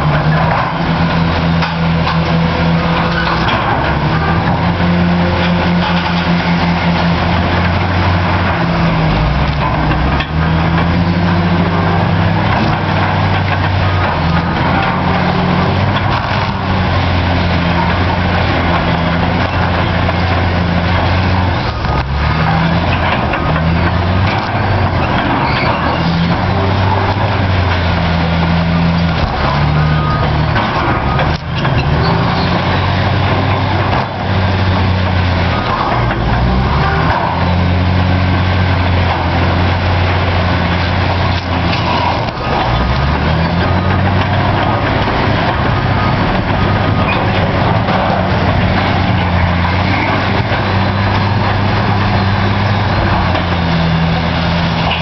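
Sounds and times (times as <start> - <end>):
bulldozer diesel engine: 0.0 - 55.0
steady harsh noise: 0.0 - 55.0.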